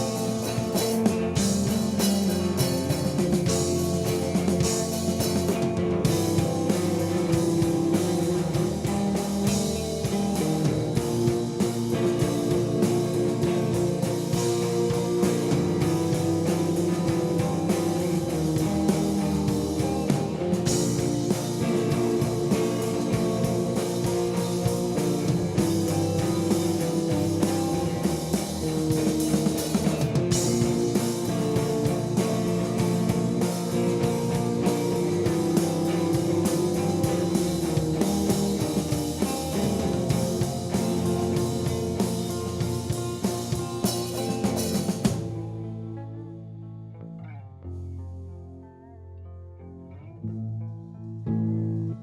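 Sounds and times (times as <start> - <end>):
rock band playing: 0.0 - 46.4.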